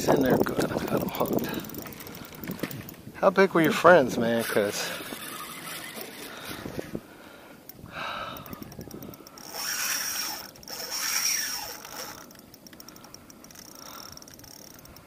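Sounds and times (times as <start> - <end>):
fishing reel clicking: 0.1 - 3.0, 3.6 - 6.9, 7.6 - 15.0.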